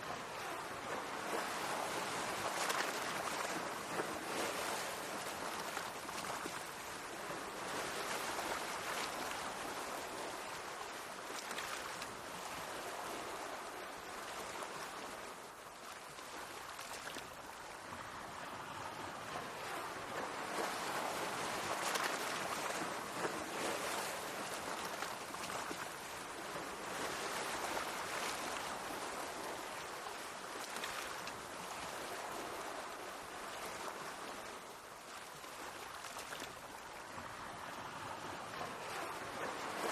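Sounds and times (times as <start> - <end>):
small waves splashing on shore: 0.0 - 39.9.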